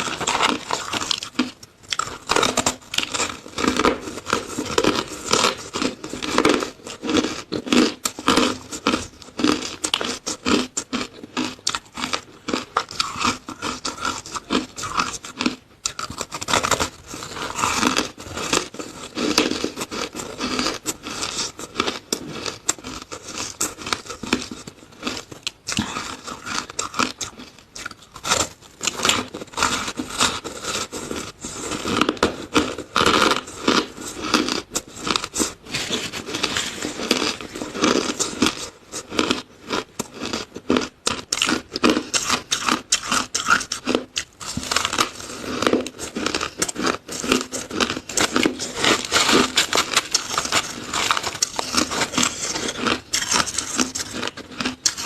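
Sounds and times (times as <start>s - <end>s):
chewing crunchy shaved ice: 0.0s - 55.0s.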